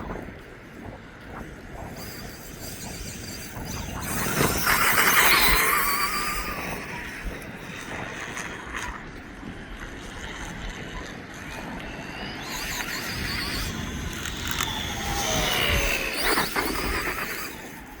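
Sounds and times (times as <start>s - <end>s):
electric motor whining: 0.0s - 18.0s
tyres on dirt: 0.0s - 18.0s.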